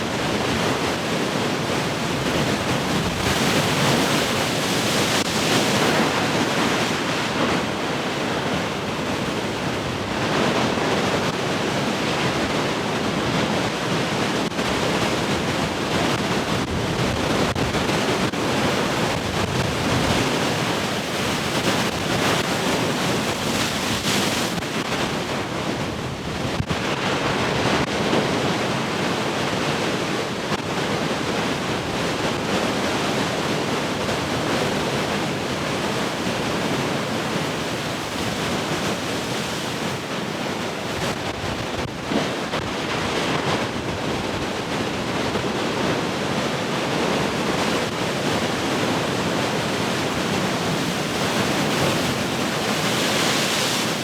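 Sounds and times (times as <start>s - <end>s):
heavy ocean surf crashing: 0.0s - 54.0s
wind noise on microphone: 0.0s - 54.0s.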